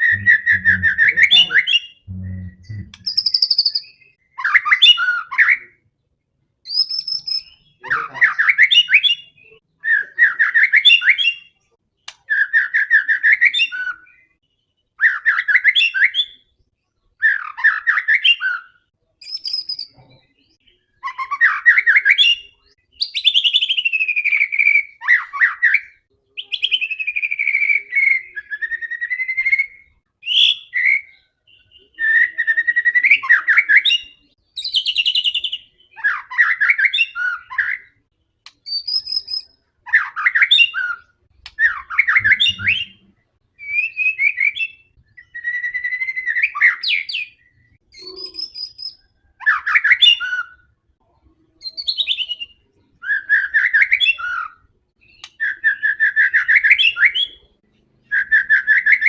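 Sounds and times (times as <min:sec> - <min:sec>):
songbird singing trills and whistles: 0:00.0 - 0:05.8, 0:06.7 - 0:38.0, 0:38.6 - 0:50.7, 0:51.5 - 0:59.0.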